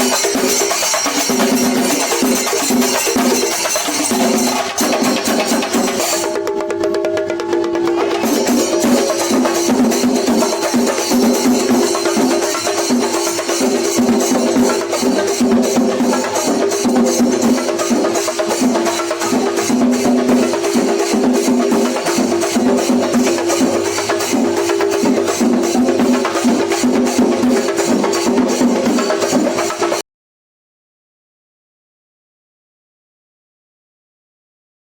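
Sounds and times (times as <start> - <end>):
drums in fast rhythm: 0.0 - 30.0
hand cymbals clashing: 0.0 - 30.0.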